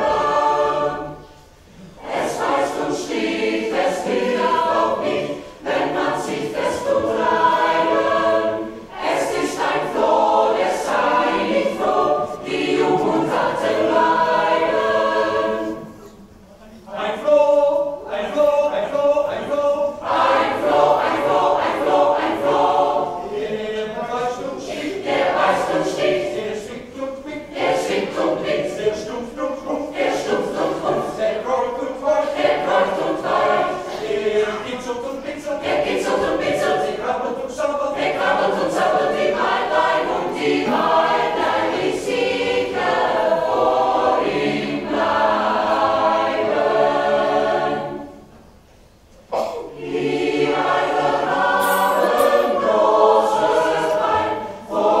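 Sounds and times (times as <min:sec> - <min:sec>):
mixed choir singing: 0:00.0 - 0:16.3, 0:16.9 - 0:48.5, 0:49.3 - 0:55.0.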